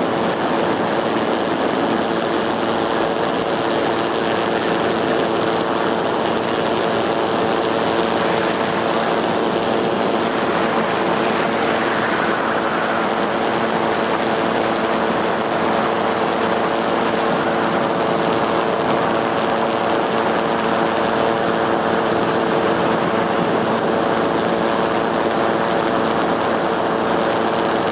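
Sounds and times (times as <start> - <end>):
aircraft engine and propeller drone: 0.0 - 27.9.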